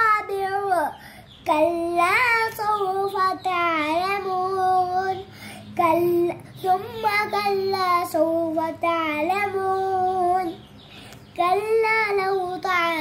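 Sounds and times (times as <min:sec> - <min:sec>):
girl chanting recitation: 0:00.0 - 0:13.0.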